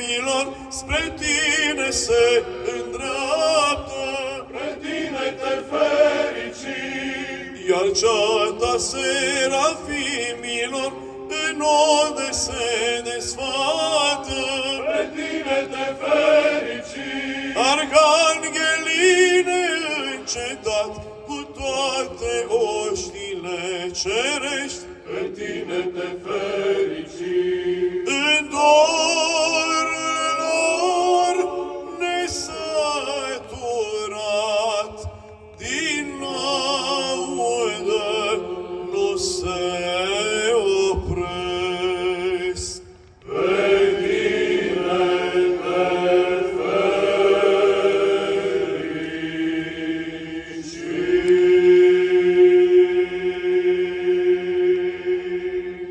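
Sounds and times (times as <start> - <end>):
male choir chanting a cappella: 0.0 - 55.9.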